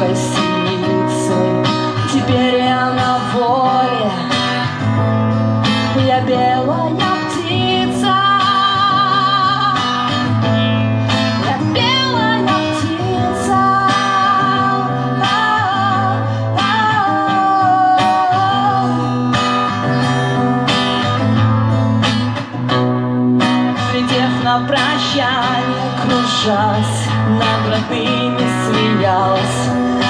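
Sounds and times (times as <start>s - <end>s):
woman singing: 0.0s - 5.0s, 5.6s - 20.4s, 23.4s - 30.0s
strummed acoustic guitar: 0.0s - 30.0s.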